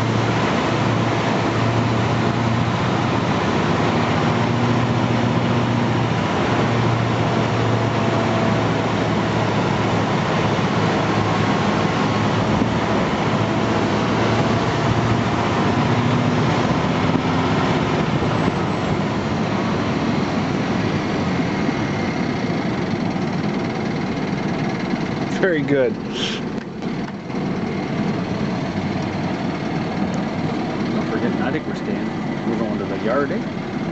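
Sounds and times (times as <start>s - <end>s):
road noise: 0.0s - 33.9s
truck engine drone: 0.0s - 33.9s.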